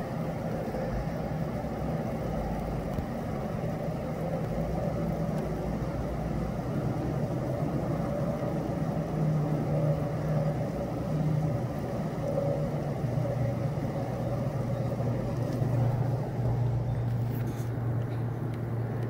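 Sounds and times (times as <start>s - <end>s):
faint even hum: 0.0s - 19.0s
low outdoor rumble: 0.0s - 19.0s.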